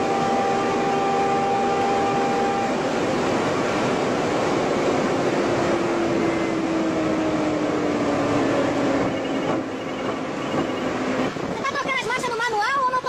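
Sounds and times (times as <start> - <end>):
car engine tone: 0.0 - 11.7
wind and road noise in car: 0.0 - 13.0.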